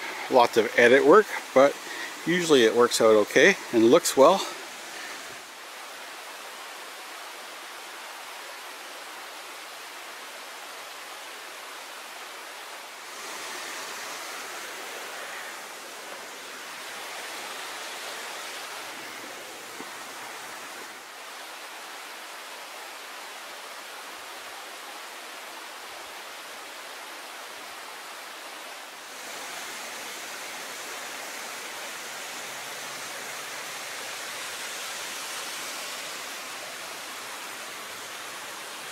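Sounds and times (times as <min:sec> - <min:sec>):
outdoor rushing hiss: 0:00.0 - 0:38.9.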